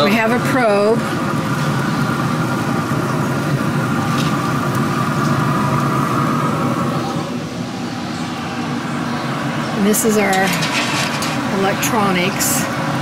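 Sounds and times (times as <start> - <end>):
smoker grill fan whirring hum: 0.0 - 13.0.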